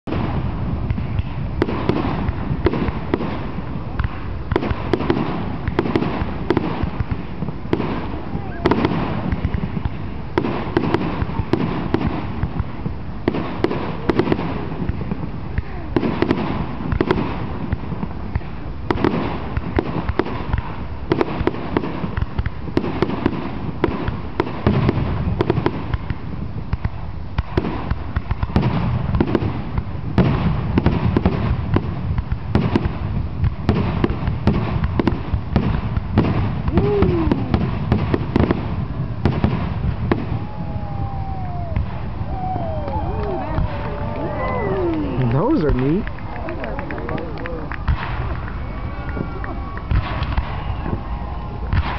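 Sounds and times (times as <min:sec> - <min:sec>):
fireworks crackling: 0:00.0 - 0:51.9
fireworks booming and cracking: 0:00.1 - 0:51.9.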